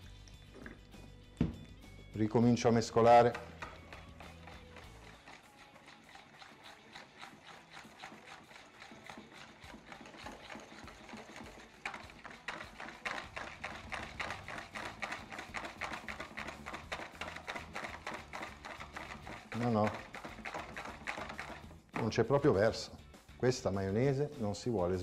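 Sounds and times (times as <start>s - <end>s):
whisk beating in a bowl: 2.3s - 22.5s.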